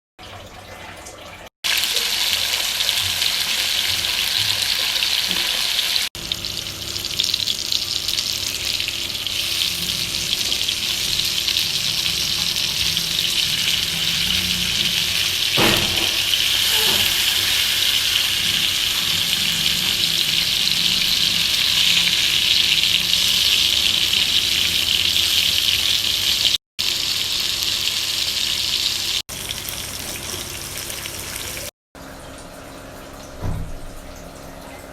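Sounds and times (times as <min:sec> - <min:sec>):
fish frying in hot oil: 0:01.7 - 0:31.7.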